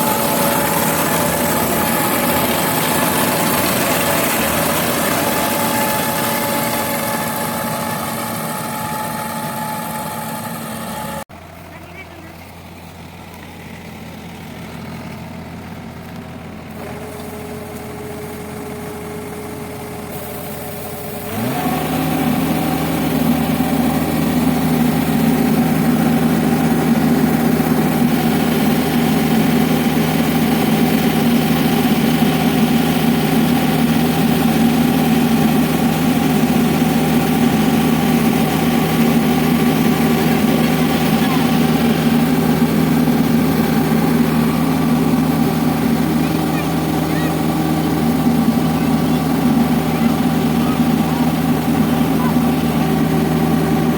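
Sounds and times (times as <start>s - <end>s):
diesel engine revving: 0.0s - 53.9s.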